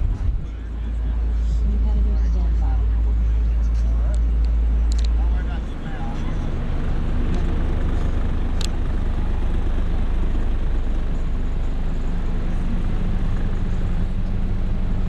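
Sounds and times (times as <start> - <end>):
loud deep subwoofer bass tones: 0.0 - 2.8, 5.4 - 15.0.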